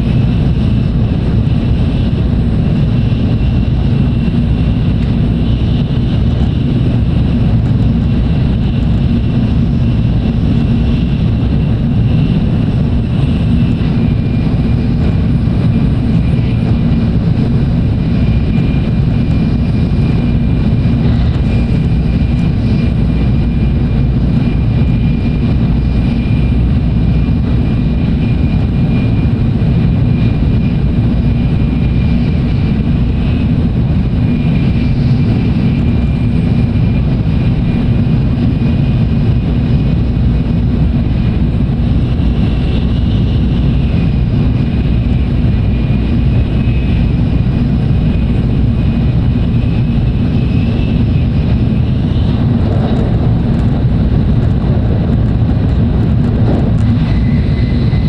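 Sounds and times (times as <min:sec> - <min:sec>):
thin steady whine: 0:00.0 - 0:58.0
train cabin low rumble: 0:00.0 - 0:58.0.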